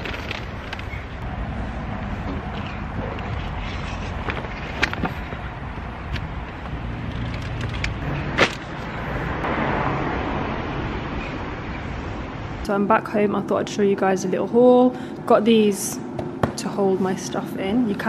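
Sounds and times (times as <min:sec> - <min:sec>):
traffic rumble: 0:00.0 - 0:18.0
wind: 0:00.0 - 0:18.0.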